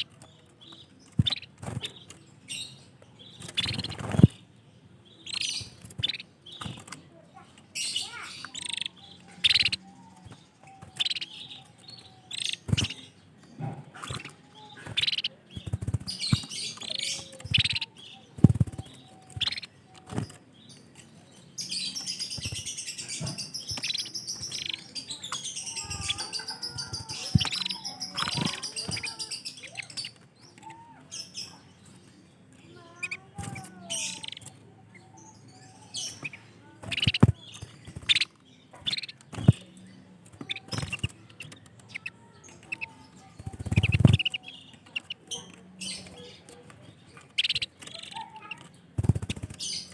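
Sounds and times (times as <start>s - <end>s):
canaries chirping: 0.0s - 49.9s
canary trilling song: 0.0s - 49.9s.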